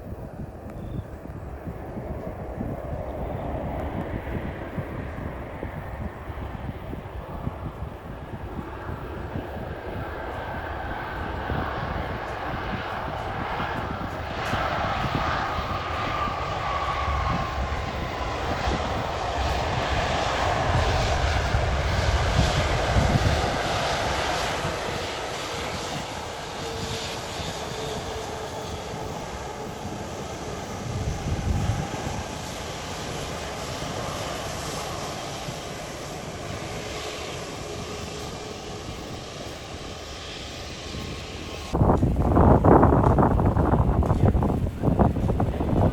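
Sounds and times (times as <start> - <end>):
airliner engines passing: 0.0 - 45.9.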